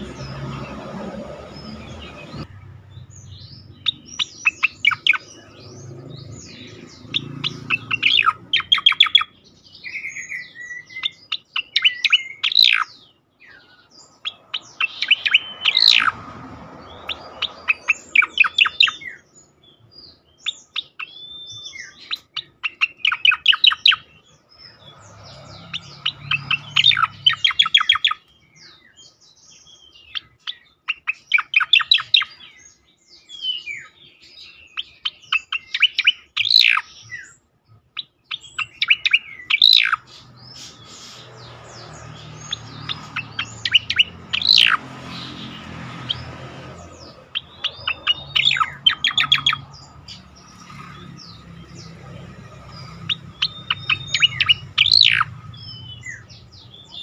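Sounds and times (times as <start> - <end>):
bird singing trills and whistles: 0.0 - 16.2, 16.8 - 57.0.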